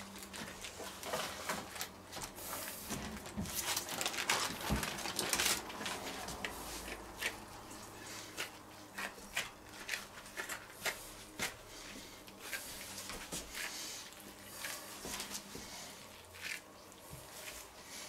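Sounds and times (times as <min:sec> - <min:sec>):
baking paper crinkling: 0:00.0 - 0:18.0.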